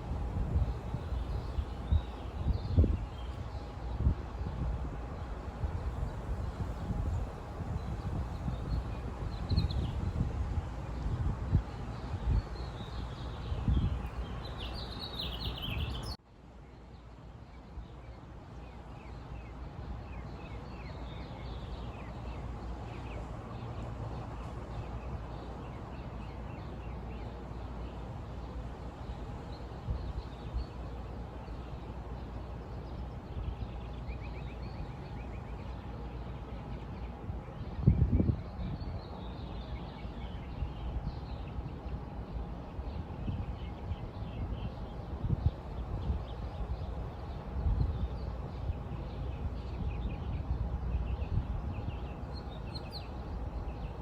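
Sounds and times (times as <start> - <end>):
small birds chirping: 0.6 - 10.2, 11.0 - 16.2, 17.6 - 54.0.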